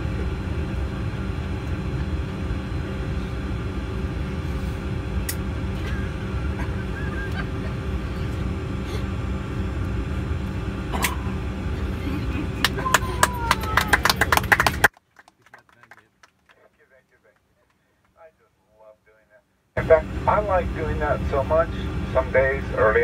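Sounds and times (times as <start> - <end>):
airliner cabin air system hum: 0.0 - 23.0.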